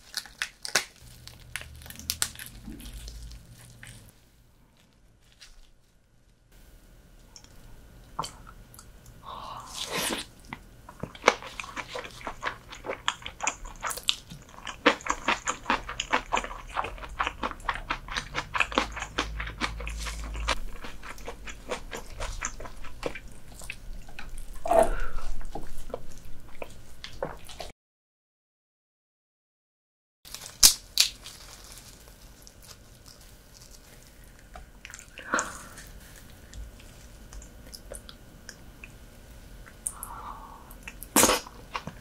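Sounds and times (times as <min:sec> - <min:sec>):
crunching and chewing: 0:00.0 - 0:05.9, 0:08.2 - 0:27.7, 0:30.3 - 0:40.2, 0:40.8 - 0:42.0.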